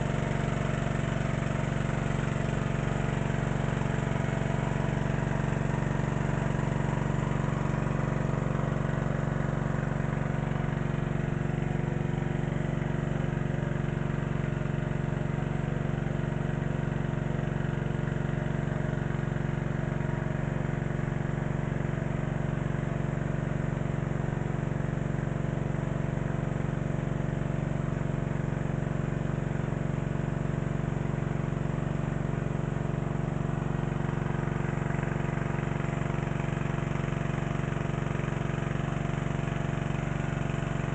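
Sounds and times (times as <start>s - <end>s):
water pump engine running: 0.0s - 40.9s.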